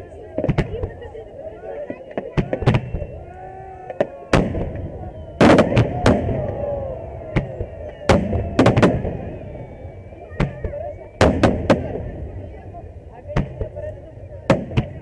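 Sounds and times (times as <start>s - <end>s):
fireworks bursting in bangs: 0.3s - 1.0s, 2.0s - 3.2s, 3.8s - 13.9s, 14.5s - 15.0s.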